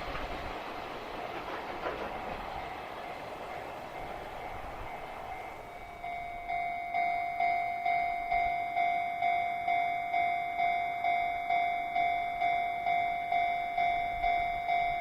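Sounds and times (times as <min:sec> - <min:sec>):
passing train: 0:00.0 - 0:15.0
level-crossing warning bell: 0:01.2 - 0:15.0.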